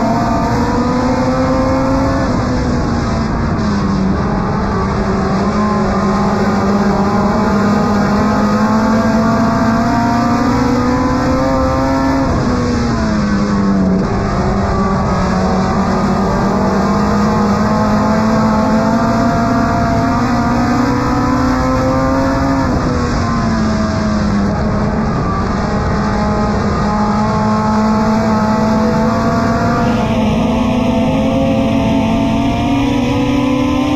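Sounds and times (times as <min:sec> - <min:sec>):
race car engine from inside: 0:00.0 - 0:33.9.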